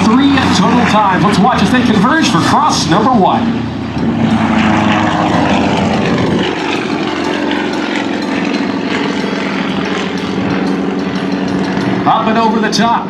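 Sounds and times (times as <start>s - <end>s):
propeller planes passing: 0.0s - 13.0s.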